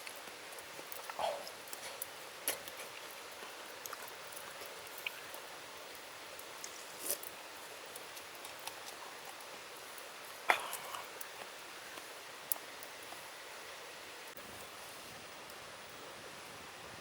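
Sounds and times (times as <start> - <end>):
stream running: 0.0 - 14.4.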